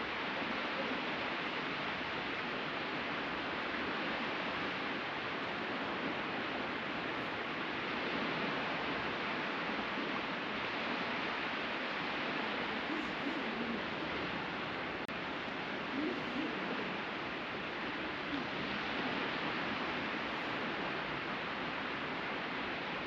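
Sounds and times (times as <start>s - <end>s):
ocean surf washing on beach: 0.0s - 23.0s.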